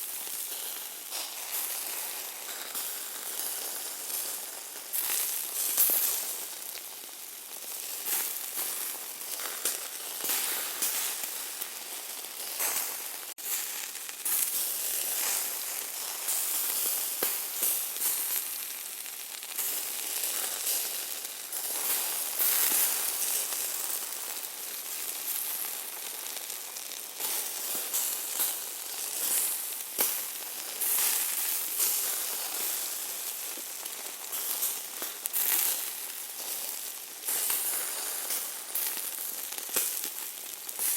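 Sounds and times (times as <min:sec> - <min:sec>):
meat sizzling on a grill: 0:00.0 - 0:40.9
fat crackling and popping: 0:05.0 - 0:40.9.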